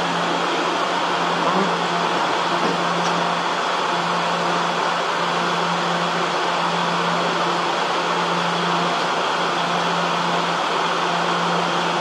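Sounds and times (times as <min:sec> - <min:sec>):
steady low hum: 0:00.0 - 0:12.0
train air conditioning whirring: 0:00.0 - 0:12.0.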